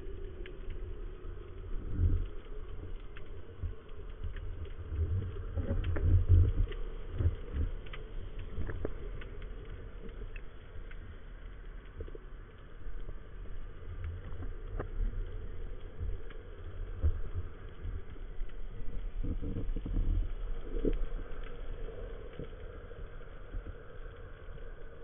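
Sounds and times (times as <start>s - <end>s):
faint underwater clicks: 0.0s - 25.0s
low rumbling of moving water: 0.0s - 25.0s.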